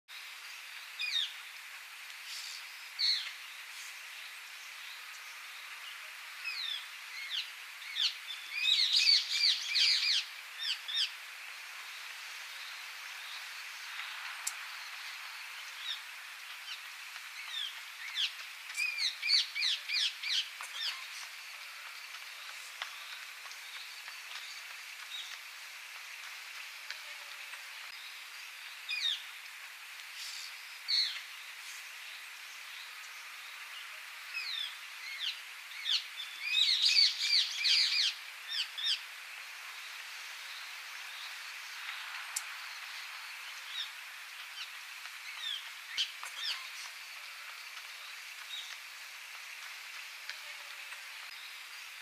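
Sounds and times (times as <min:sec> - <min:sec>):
background hiss: 0:00.1 - 0:52.0.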